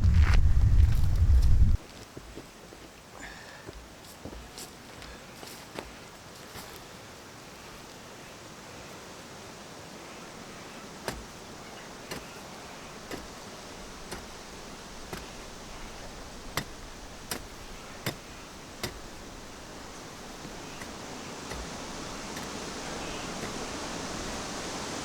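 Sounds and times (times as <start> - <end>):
footsteps on dry ground: 0.0 - 7.0, 10.1 - 25.0
steady outdoor hiss: 0.0 - 25.0.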